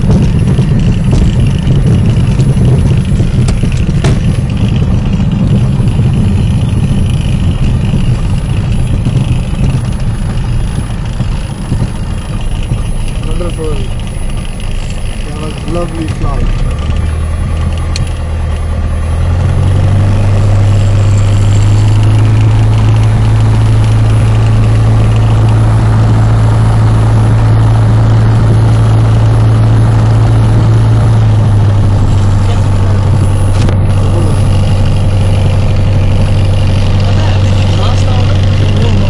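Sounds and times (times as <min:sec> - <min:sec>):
light aircraft engine drone: 0:00.0 - 0:39.0.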